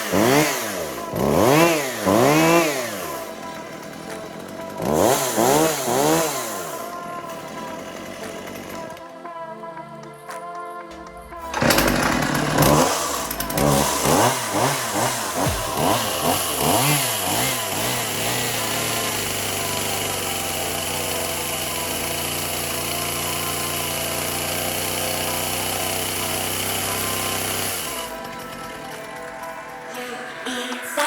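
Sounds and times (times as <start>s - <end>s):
chainsaw revving: 0.0s - 9.1s, 11.0s - 30.0s
music: 0.0s - 31.0s.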